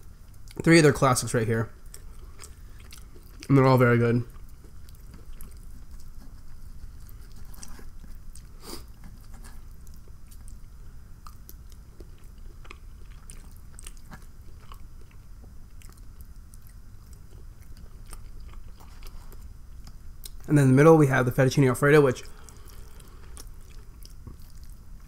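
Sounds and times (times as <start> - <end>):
person chewing food: 1.8 - 3.6, 4.3 - 20.5, 22.2 - 25.0.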